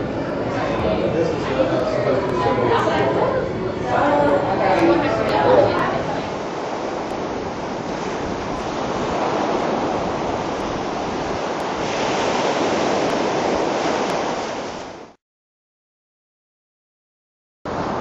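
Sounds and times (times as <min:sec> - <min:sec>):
beach surf: 0:00.0 - 0:15.2, 0:17.7 - 0:18.0
wind buffeting microphone: 0:00.0 - 0:15.2.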